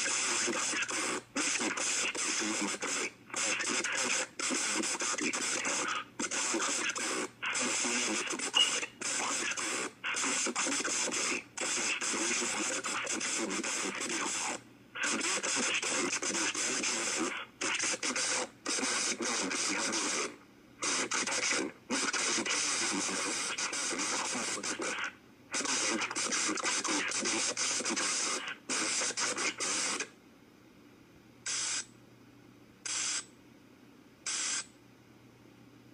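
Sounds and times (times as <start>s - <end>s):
digital data bursts: 0.0s - 30.1s
static-laden announcement: 0.0s - 30.1s.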